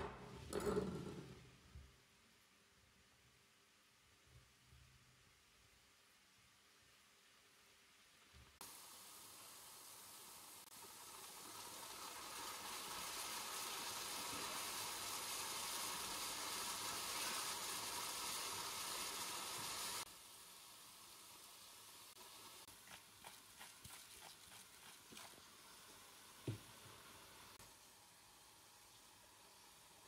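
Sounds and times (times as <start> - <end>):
mushrooms and onion sizzling in oil: 4.2 - 30.0.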